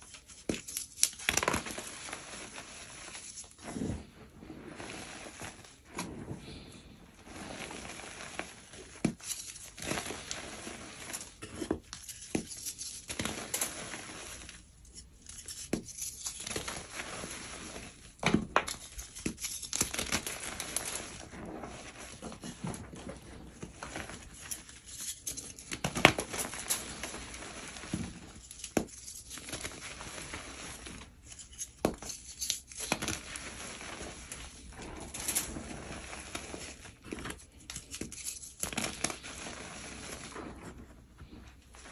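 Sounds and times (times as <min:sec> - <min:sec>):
hands crunching powdery chalk: 0:00.1 - 0:41.9.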